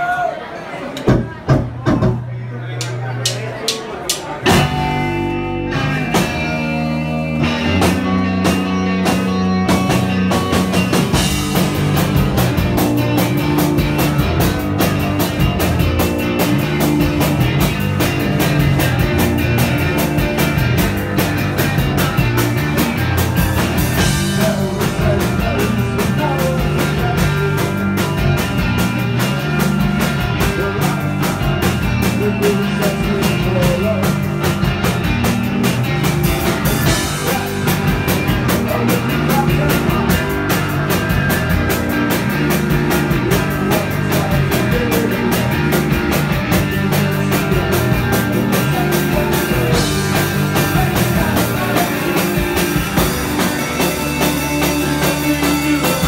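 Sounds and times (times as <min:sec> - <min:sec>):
drum and cymbal hits: 0:01.0 - 0:05.4, 0:07.8 - 0:56.0
live rock band playing: 0:01.0 - 0:56.0.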